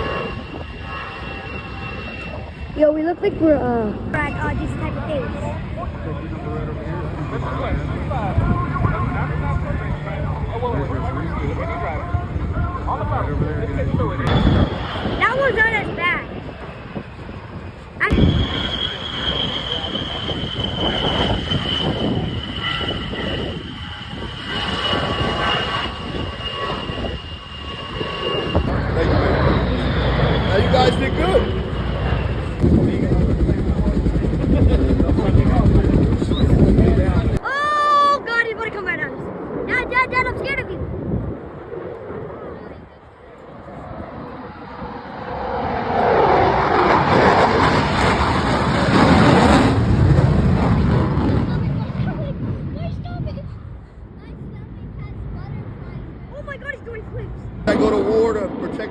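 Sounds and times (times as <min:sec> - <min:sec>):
jet aircraft passing: 0:00.0 - 0:58.9.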